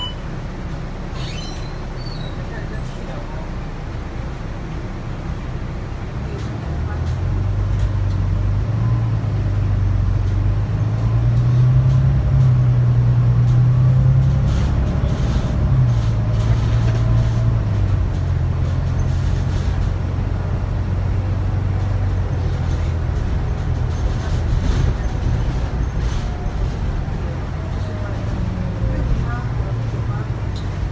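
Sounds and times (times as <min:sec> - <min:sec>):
bus diesel engine accelerating: 0:00.0 - 0:30.9.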